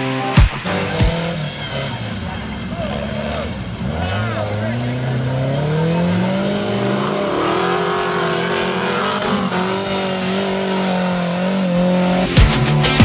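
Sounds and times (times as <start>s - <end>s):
buggy engine revving: 0.0s - 13.0s.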